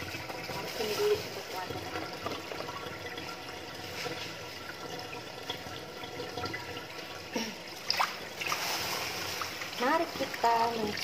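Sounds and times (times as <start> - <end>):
hose water splashing on tiles: 0.0 - 11.0.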